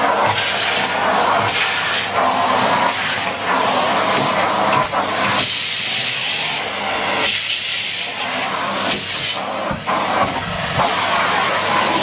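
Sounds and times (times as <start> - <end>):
vacuum cleaner sucking: 0.0 - 12.0.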